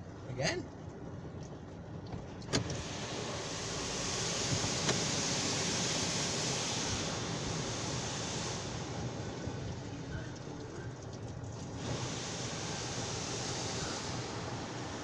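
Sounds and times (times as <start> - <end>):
car wash spray hiss: 2.5 - 15.0.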